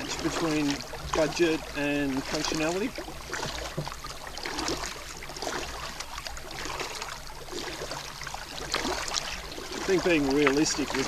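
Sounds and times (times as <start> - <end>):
paddle blades dipping into water: 0.0 - 11.0
water trickling off paddle: 0.0 - 11.0.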